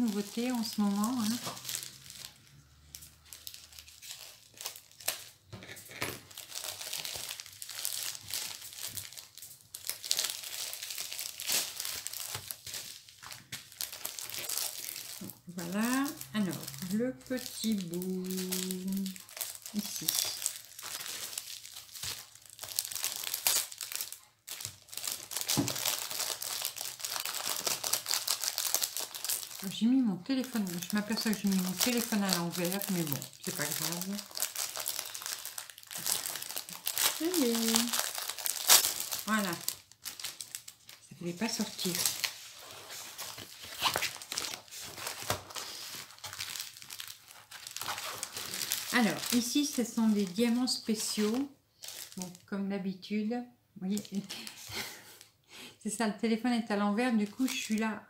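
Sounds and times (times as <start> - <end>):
plastic packaging crinkling: 0.0 - 52.5, 53.9 - 55.3.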